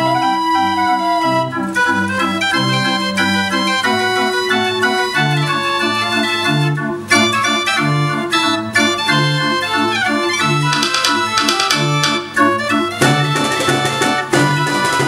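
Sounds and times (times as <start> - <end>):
street organ music: 0.0 - 15.0.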